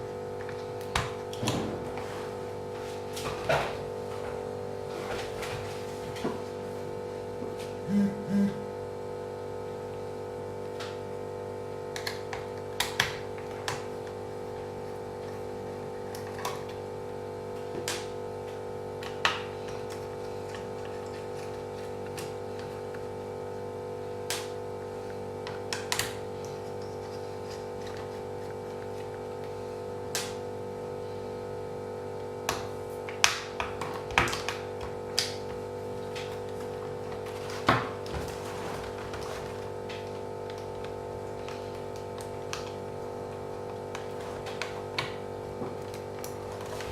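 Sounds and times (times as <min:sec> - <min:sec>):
steady electrical hum: 0:00.0 - 0:46.9.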